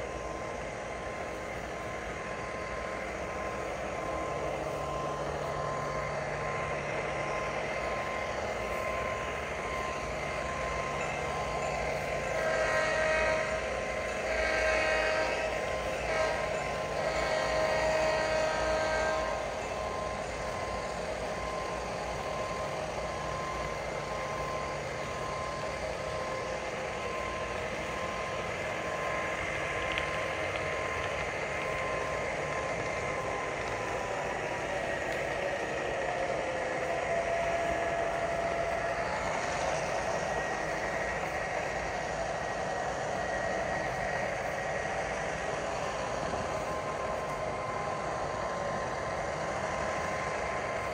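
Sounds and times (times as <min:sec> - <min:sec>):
model locomotive drone: 0:00.0 - 0:50.9.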